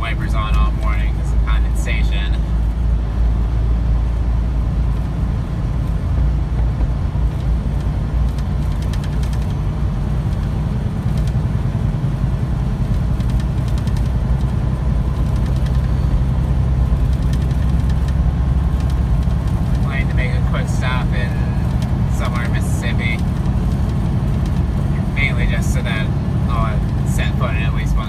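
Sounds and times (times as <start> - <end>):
diesel truck engine drone: 0.0 - 28.0
road and tyre noise: 0.0 - 28.0.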